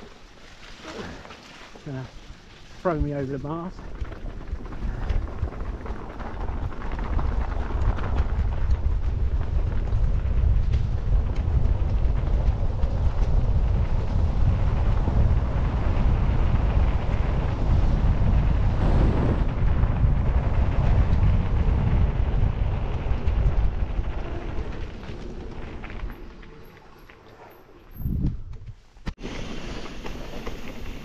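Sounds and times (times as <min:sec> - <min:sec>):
bike rattling over rocks: 0:00.4 - 0:27.2
wind buffeting microphone: 0:02.9 - 0:26.8, 0:27.8 - 0:31.0.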